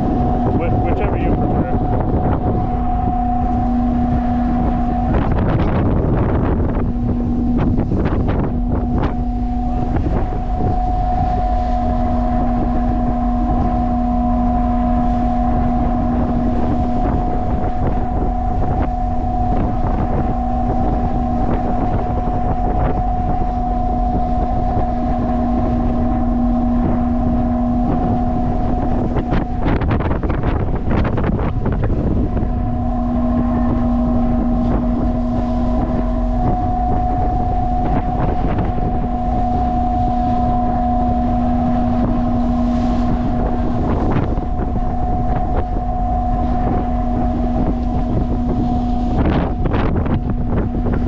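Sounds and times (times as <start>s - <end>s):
rushes of noise: 0.0s - 51.0s
ship machinery humming: 0.0s - 51.0s
wind buffeting microphone: 0.0s - 51.0s.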